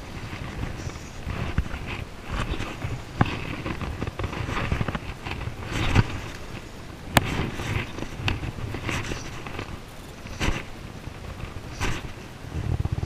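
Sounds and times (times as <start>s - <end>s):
fly line rustling scrapes: 0.0s - 13.0s.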